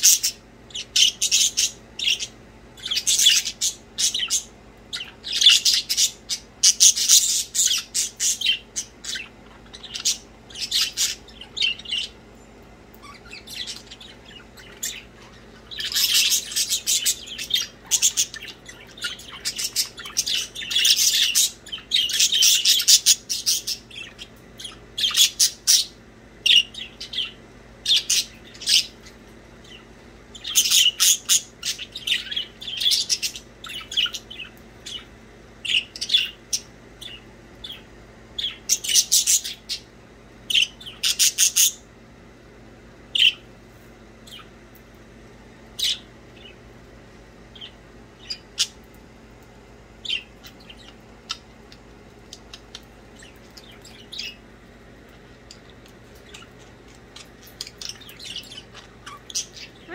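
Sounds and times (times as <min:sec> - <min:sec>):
budgerigars chirping and chattering: 0:00.0 - 0:12.2, 0:12.9 - 0:41.9, 0:43.1 - 0:43.5, 0:44.2 - 0:44.5, 0:45.8 - 0:46.6, 0:47.5 - 0:49.0, 0:50.0 - 0:59.9.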